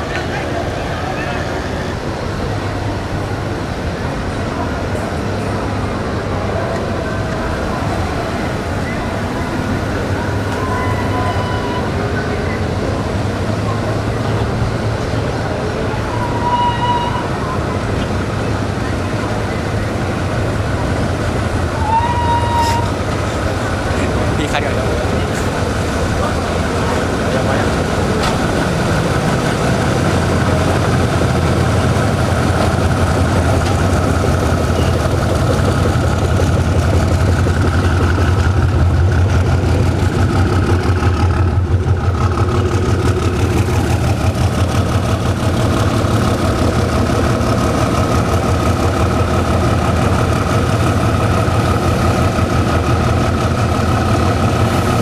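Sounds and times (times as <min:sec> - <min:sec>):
diesel locomotive engine idling: 0:00.0 - 0:55.0.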